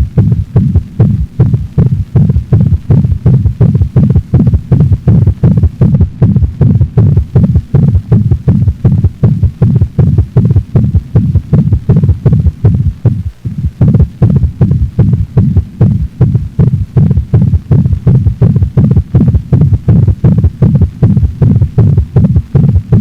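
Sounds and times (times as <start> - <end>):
dog heartbeat: 0.0 - 23.0.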